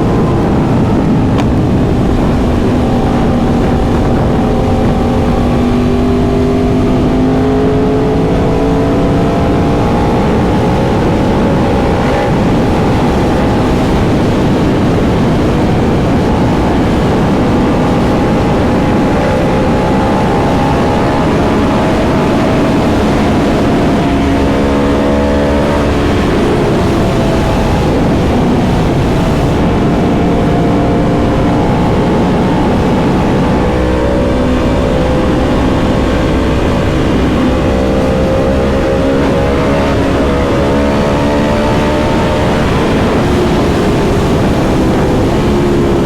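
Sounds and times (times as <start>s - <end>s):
constant rushing noise: 0.0s - 46.0s
motorcycle engine running: 0.0s - 46.0s.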